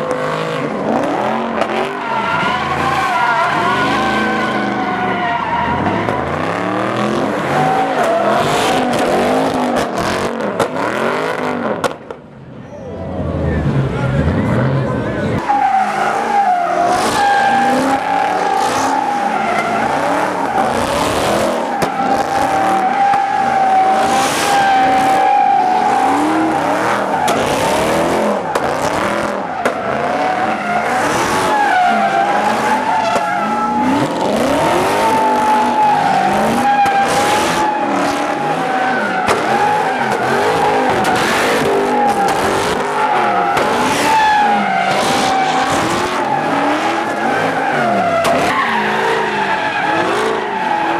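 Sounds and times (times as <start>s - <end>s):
car engine revving: 0.0s - 12.2s, 13.0s - 50.9s
tires squealing: 0.0s - 50.9s.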